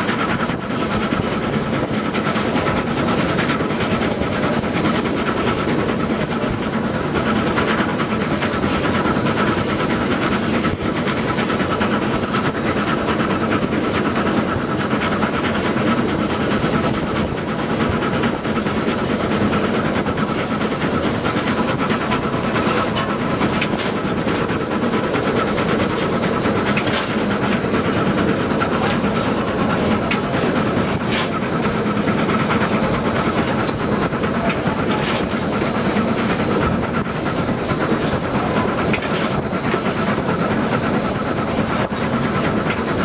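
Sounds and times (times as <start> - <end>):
steam vehicle mechanical clatter: 0.0 - 43.0.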